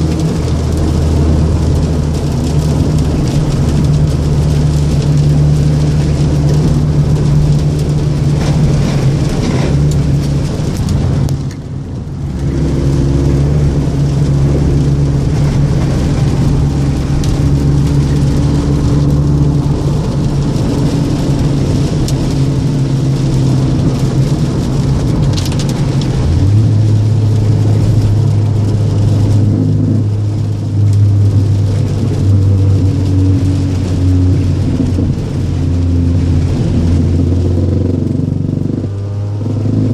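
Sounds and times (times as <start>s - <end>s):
car engine and exhaust driving: 0.0s - 39.9s.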